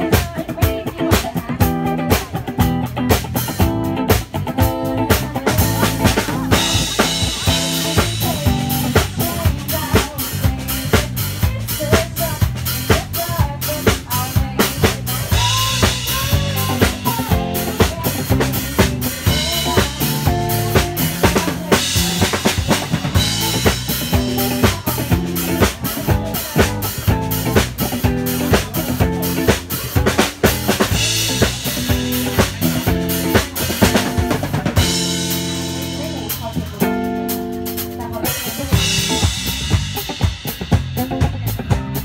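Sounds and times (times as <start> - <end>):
live band playing: 0.0 - 42.0.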